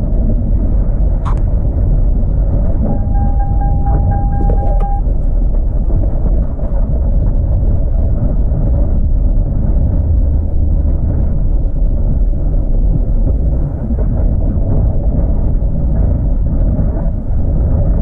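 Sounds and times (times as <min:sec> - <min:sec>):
van engine and road noise: 0:00.0 - 0:18.0.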